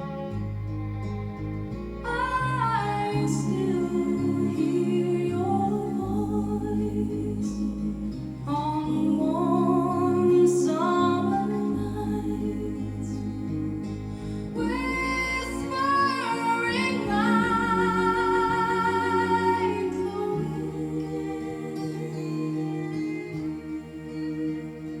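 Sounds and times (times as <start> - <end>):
bass and sustained accompaniment: 0.0 - 25.0
person singing: 2.0 - 25.0.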